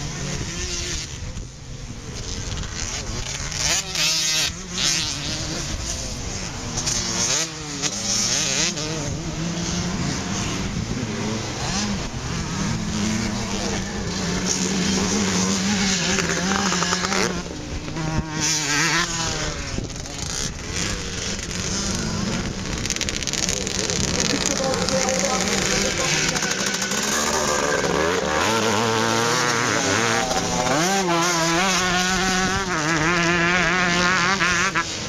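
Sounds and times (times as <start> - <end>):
motorcycle engines racing: 0.0 - 35.0.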